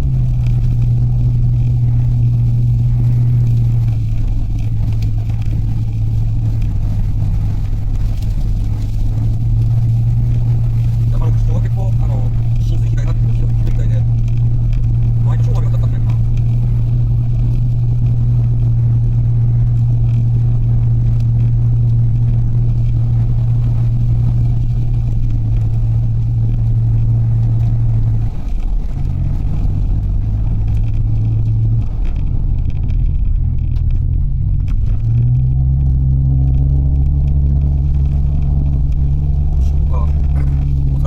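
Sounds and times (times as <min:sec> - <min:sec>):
van engine and road hum: 0:00.0 - 0:41.0.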